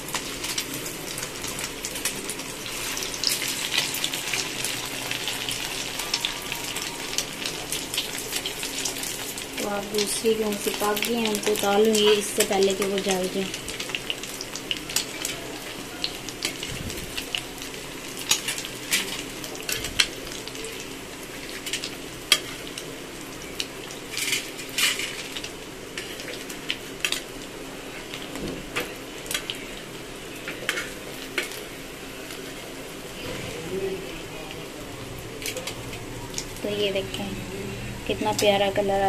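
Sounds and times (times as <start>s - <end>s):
food sizzling in ghee: 0.0s - 39.0s.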